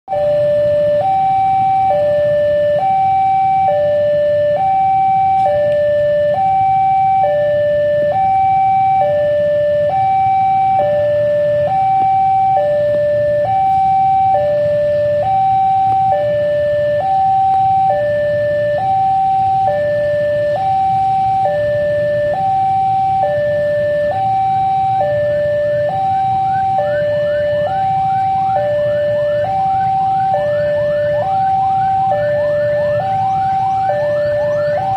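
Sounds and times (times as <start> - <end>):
two-tone electronic warning alarm: 0.1 - 34.9.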